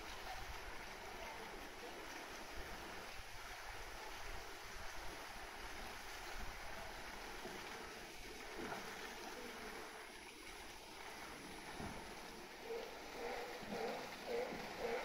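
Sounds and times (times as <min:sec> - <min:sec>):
rushing water in pool: 0:00.0 - 0:15.0.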